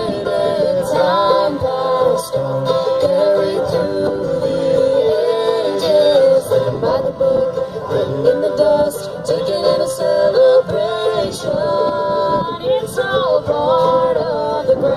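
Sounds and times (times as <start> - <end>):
acoustic string band playing: 0.0 - 14.9.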